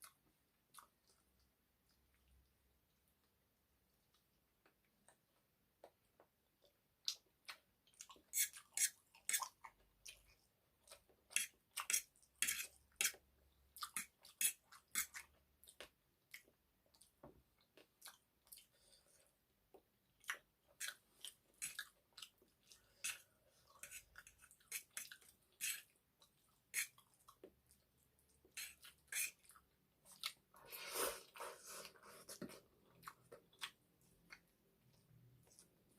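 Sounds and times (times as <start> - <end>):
mouth clicks and smacks while chewing: 0.0 - 2.5, 4.0 - 18.8, 19.7 - 30.7, 32.4 - 35.8.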